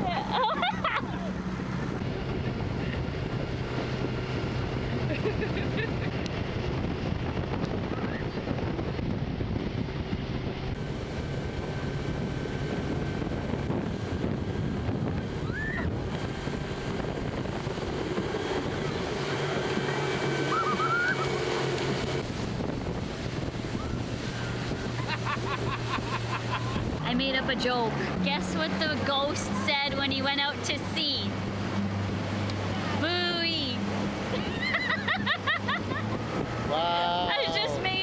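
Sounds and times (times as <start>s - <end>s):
motorboat engine running: 0.0s - 38.0s
water rushing and churning: 0.0s - 38.0s
wind buffeting microphone: 0.0s - 38.0s.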